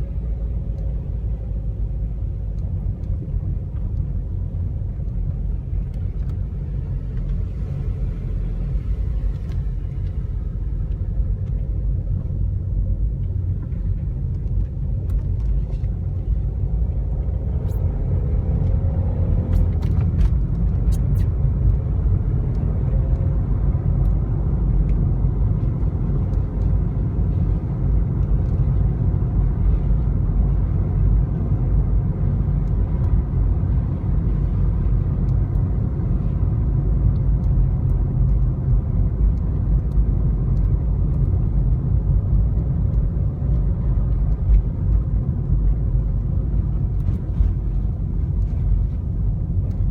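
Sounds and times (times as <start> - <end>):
car engine and road noise: 0.0 - 49.9.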